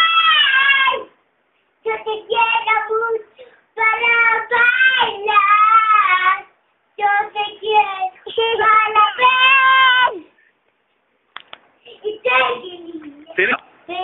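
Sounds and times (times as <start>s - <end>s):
girl singing unaccompanied: 0.0s - 1.2s, 1.8s - 10.4s, 11.8s - 14.0s.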